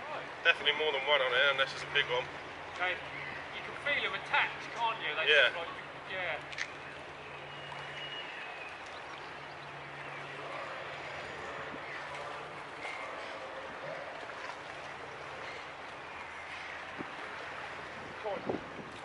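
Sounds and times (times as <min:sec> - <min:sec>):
boat engine hum: 0:00.0 - 0:19.0
hiss of water and wind: 0:00.0 - 0:19.0.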